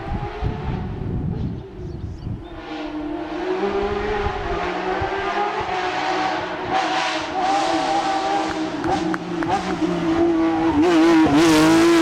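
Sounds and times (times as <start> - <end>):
race car engine at high revs: 0.0 - 1.8, 2.5 - 12.0.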